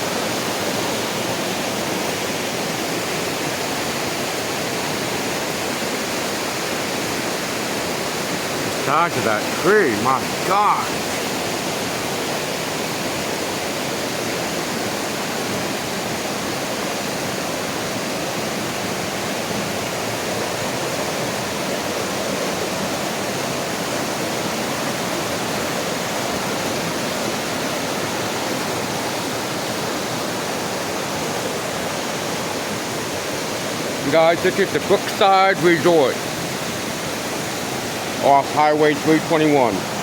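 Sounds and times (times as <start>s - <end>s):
mountain creek rushing: 0.0s - 40.0s.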